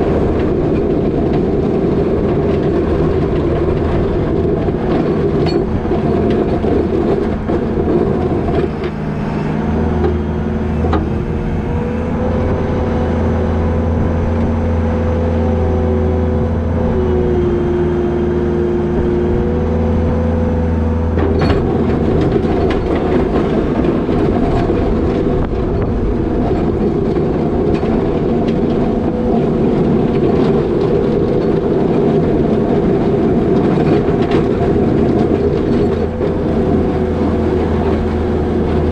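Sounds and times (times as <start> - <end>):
diesel engine running: 0.0 - 38.9
steady whine: 0.0 - 38.9.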